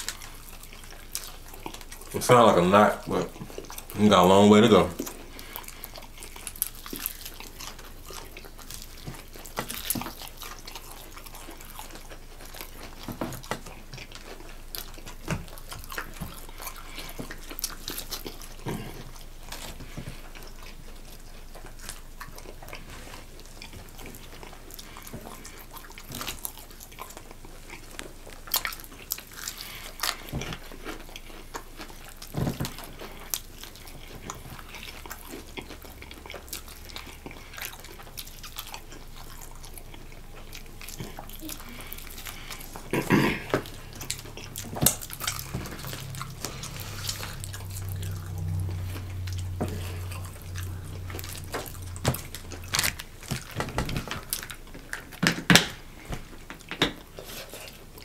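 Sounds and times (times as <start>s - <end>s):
people chewing food: 0.0s - 58.0s.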